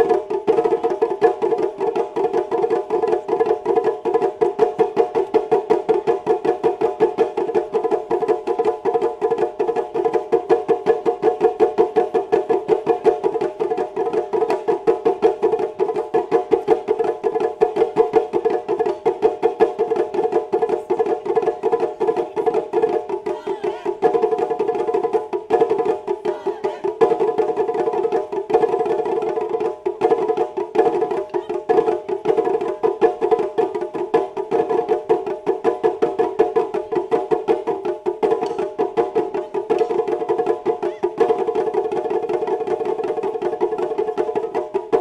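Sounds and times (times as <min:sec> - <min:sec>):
taiko drums playing: 0:00.0 - 0:45.0.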